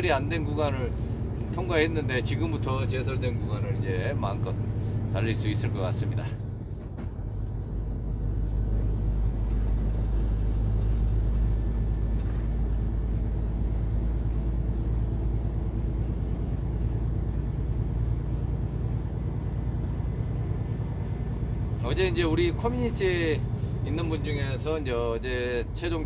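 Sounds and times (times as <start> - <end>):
diesel truck engine drone: 0.0 - 26.0
tyre and road noise: 0.0 - 26.0.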